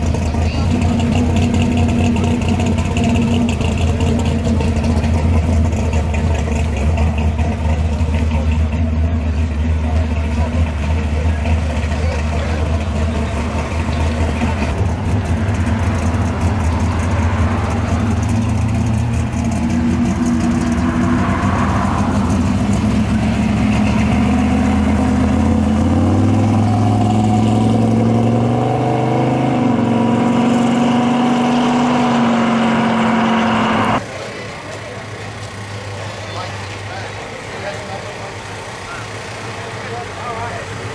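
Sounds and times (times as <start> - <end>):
car engine accelerating: 0.0 - 34.2.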